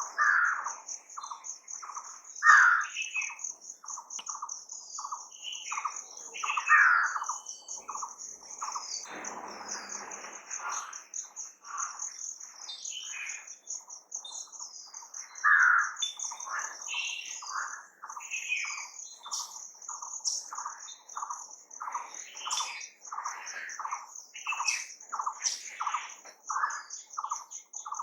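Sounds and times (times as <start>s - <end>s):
wild birds chirping and calling: 0.0s - 28.0s.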